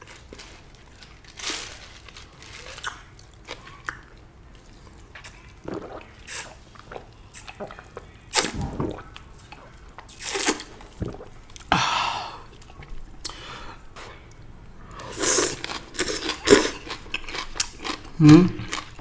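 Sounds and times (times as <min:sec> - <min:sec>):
crunching and chewing food: 0:00.0 - 0:11.7, 0:12.5 - 0:19.0.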